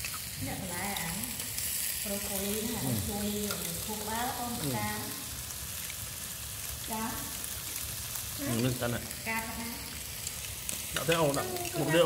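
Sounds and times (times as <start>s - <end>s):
food sizzling on a grill: 0.0s - 12.0s.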